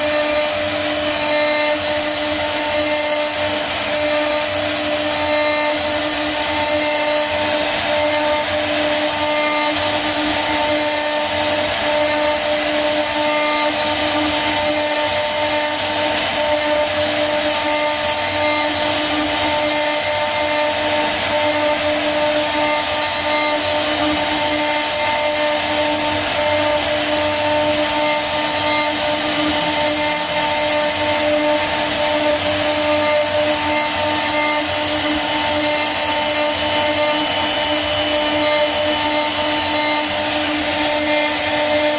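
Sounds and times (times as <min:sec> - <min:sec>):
router bit carving wood: 0:00.0 - 0:41.9
router spindle whining: 0:00.0 - 0:41.9.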